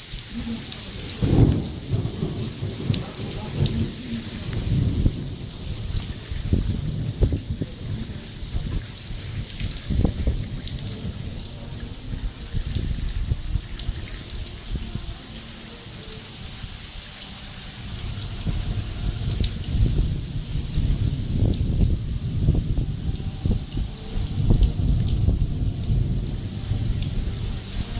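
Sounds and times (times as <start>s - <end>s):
heavy rain beating down: 0.0s - 27.9s
low thunder rumbling: 0.3s - 27.9s.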